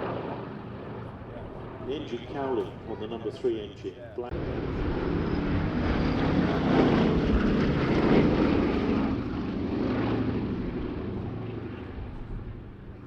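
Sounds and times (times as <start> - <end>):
radial piston engines of passing bomber: 0.0 - 13.0.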